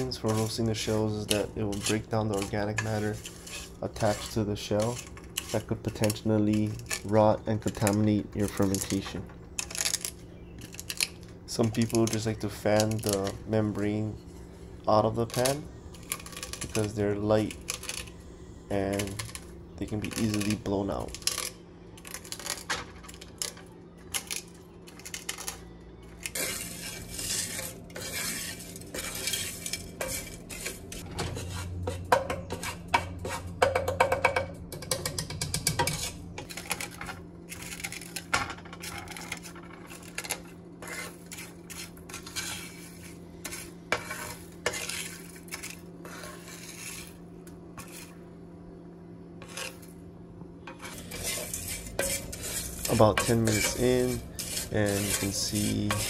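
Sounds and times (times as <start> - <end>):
spatula scraping eggshells in pan: 0.0 - 34.1, 35.0 - 48.2, 49.4 - 50.0, 50.7 - 56.0.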